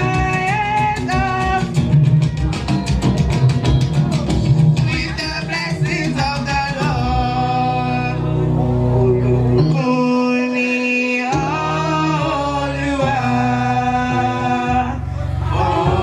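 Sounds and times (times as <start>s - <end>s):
man singing: 0.0s - 1.8s, 4.8s - 16.0s
instrumental accompaniment: 0.0s - 16.0s.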